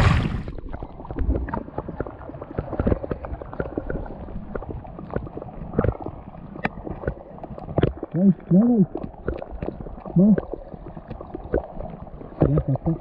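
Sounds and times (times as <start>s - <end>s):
shallow water sloshing and splashing: 0.0s - 12.8s.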